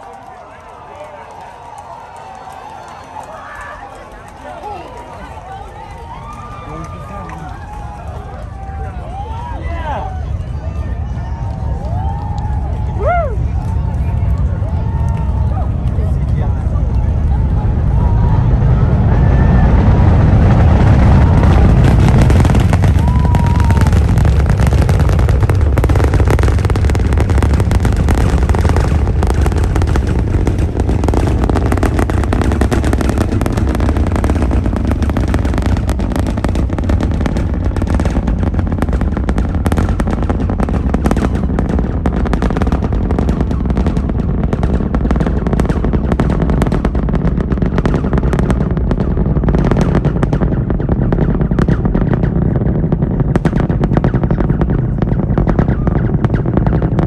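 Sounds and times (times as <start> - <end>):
dense crackling: 0.0 - 57.0
rocket engines roaring: 0.0 - 57.0.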